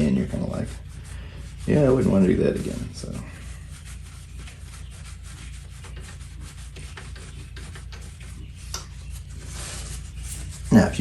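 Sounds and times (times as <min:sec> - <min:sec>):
scratchy polishing strokes on metal: 0:00.0 - 0:11.0
steady low hum: 0:00.0 - 0:11.0.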